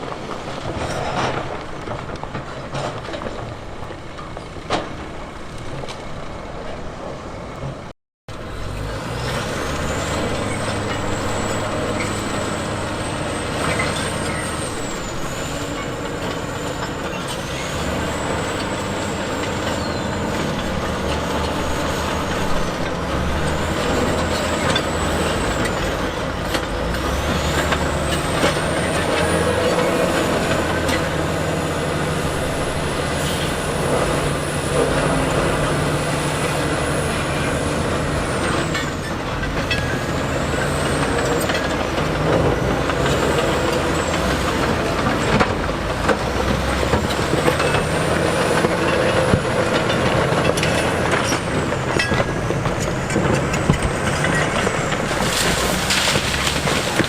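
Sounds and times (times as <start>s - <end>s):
diesel machinery engine hum: 0.0s - 57.0s.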